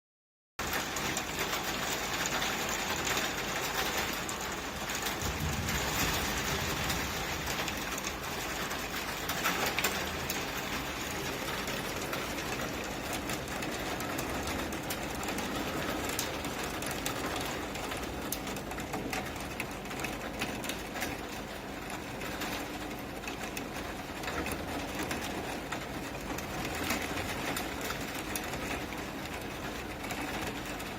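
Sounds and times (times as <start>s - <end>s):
heavy rain pouring on hard surfaces: 0.6s - 30.9s.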